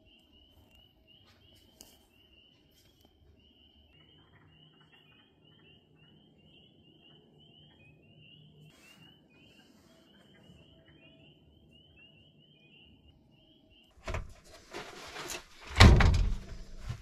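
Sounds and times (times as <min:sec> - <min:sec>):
faint high chirps: 0:00.0 - 0:14.0.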